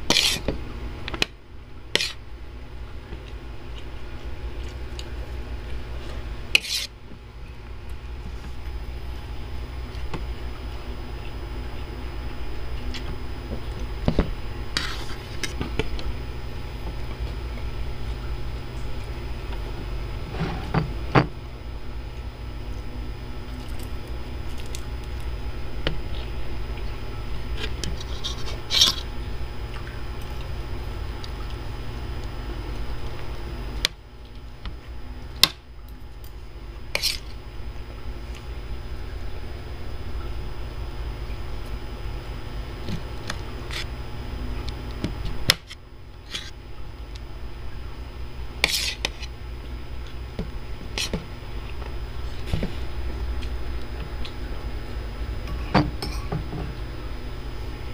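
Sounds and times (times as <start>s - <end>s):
low hum: 0.0s - 57.9s.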